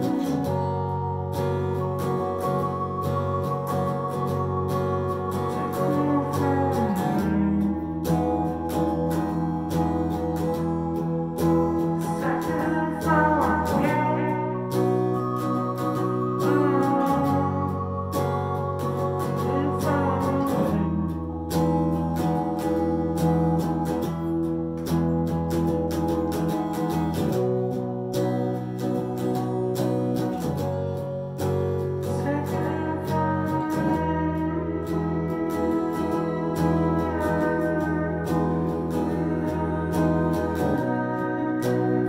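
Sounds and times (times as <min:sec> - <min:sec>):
electric guitar: 0:00.0 - 0:42.0
keyboard chords: 0:00.0 - 0:42.0.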